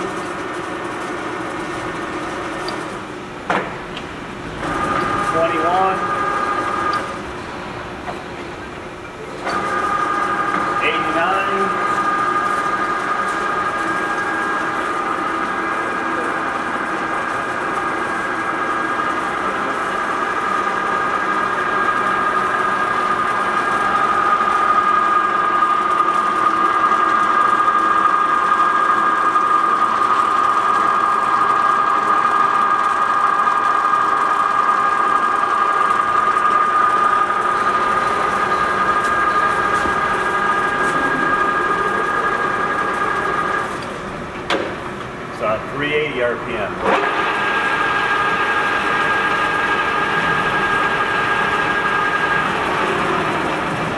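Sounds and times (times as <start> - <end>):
drive motor hum: 0.0 - 45.8, 46.6 - 53.9.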